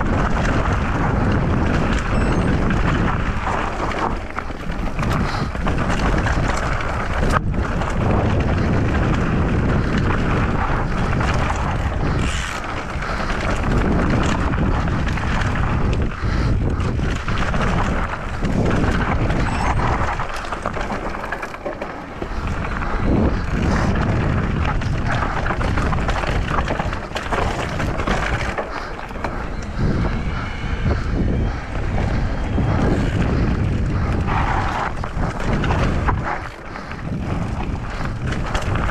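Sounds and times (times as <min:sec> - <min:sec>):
bike rattling over bumps: 0:00.0 - 0:38.9
tyre noise on gravel: 0:00.0 - 0:38.9
wind buffeting microphone: 0:00.0 - 0:38.9.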